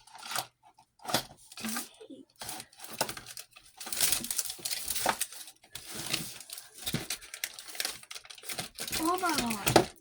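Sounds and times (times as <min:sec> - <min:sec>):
rummaging in a drawer: 0:00.0 - 0:10.0.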